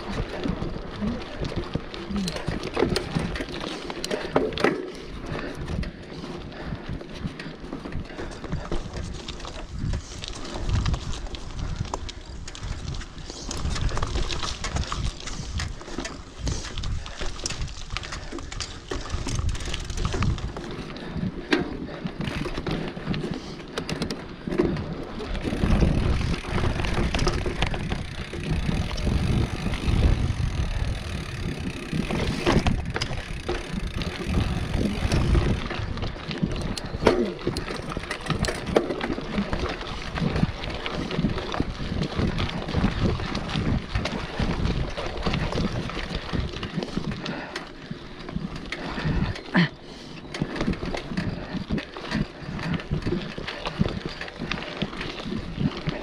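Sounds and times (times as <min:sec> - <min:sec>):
wind buffeting microphone: 0:00.0 - 0:49.6, 0:50.2 - 0:56.0
bike rattling: 0:00.0 - 0:56.0
bike tyres rumbling on dirt: 0:00.0 - 0:56.0.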